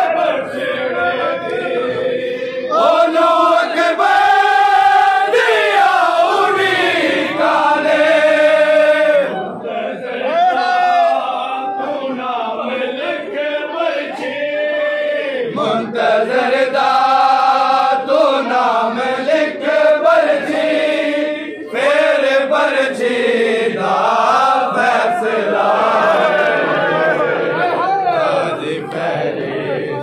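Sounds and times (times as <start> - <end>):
men chanting along: 0.0 - 30.0.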